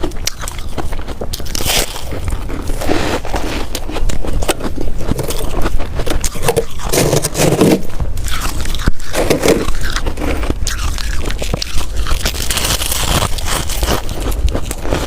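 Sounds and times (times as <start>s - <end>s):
person chewing ice: 0.0s - 15.0s.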